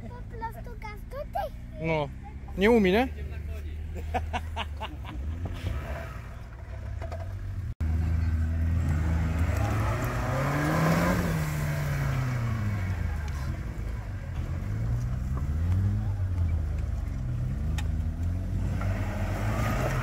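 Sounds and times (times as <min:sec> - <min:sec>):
engine revving: 0:01.2 - 0:20.0.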